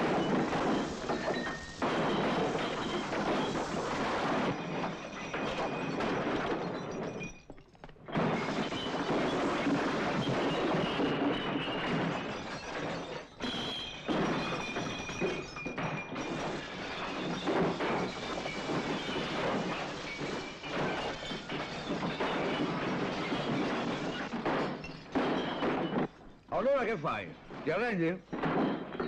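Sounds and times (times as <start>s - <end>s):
crashes and thuds: 0.0s - 29.0s
glass shattering: 0.0s - 29.0s.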